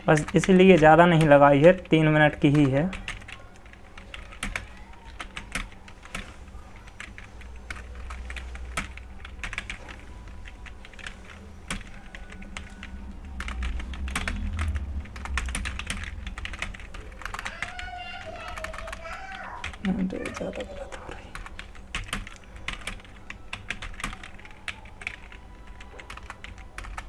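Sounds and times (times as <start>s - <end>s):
keyboard typing clicks: 0.1s - 27.0s.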